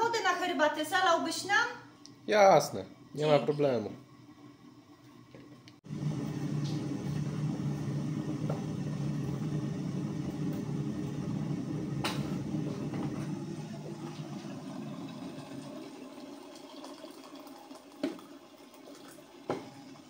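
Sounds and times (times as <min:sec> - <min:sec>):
kettle heating water rumble: 0:00.0 - 0:20.0.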